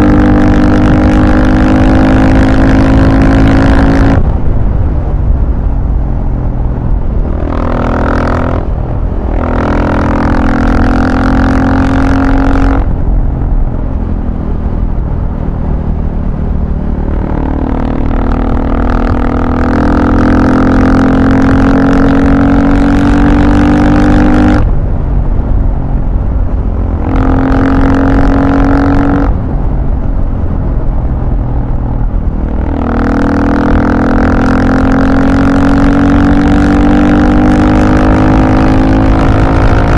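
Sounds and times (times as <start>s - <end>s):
constant low rumble: 0.0s - 39.9s
vehicle engine accelerating: 0.0s - 39.9s.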